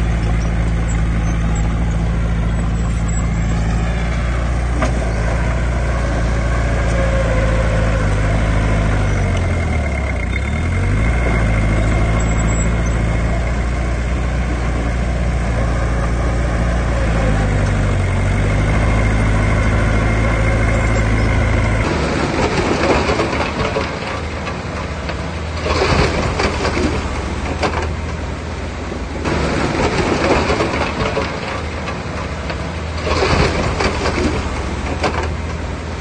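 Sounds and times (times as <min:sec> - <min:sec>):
diesel engine droning: 0:00.0 - 0:36.0
rough machine surging: 0:00.0 - 0:36.0.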